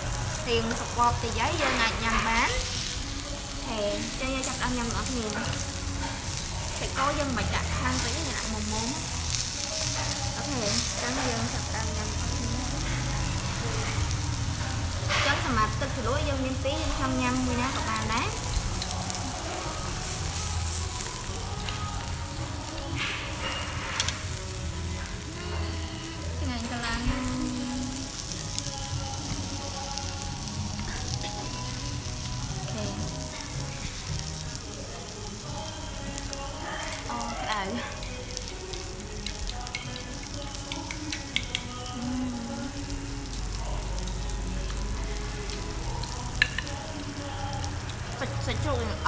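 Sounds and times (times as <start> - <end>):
meat sizzling on a grill: 0.0 - 49.0.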